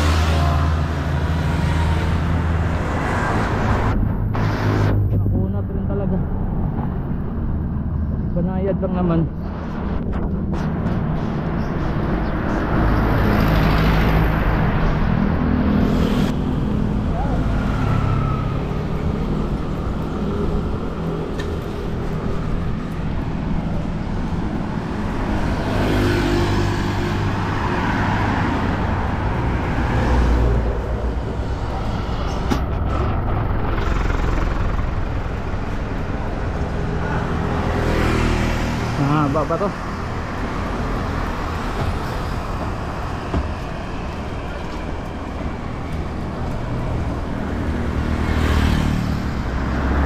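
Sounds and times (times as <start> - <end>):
road traffic: 0.0 - 50.0.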